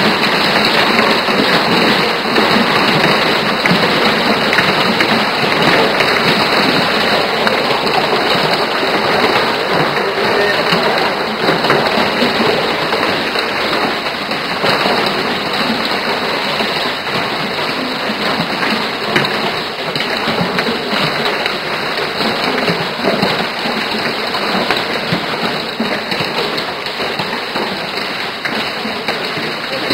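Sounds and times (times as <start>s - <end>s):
hail and rain pelting down: 0.0s - 29.9s.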